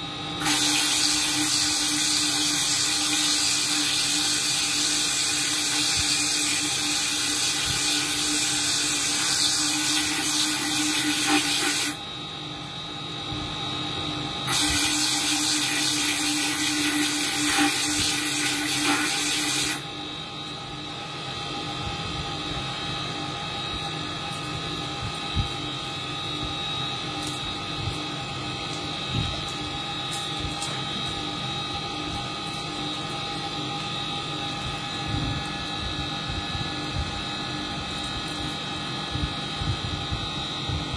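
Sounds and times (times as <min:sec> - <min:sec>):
spindle motor whine: 0:00.0 - 0:40.9.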